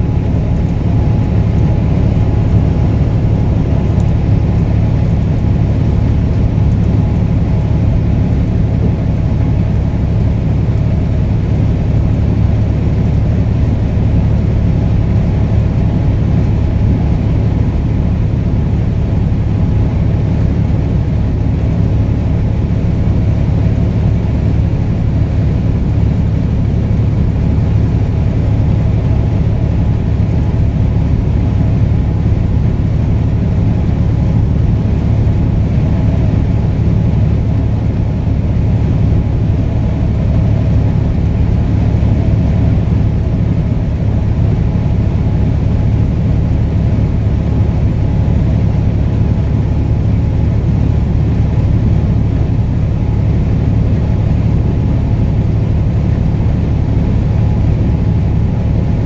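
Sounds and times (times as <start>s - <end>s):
truck engine drone: 0.0s - 59.0s.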